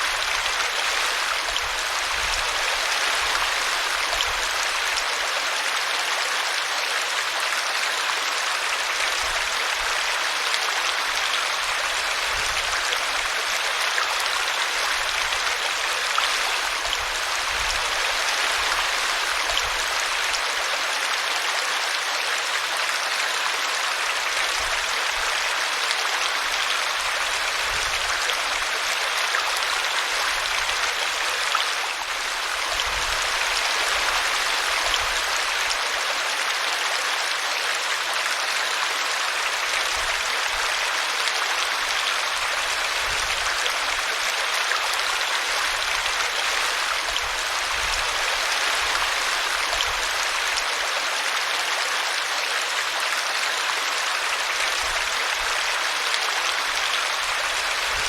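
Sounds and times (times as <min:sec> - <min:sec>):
brook babbling and splashing: 0:00.0 - 0:58.0.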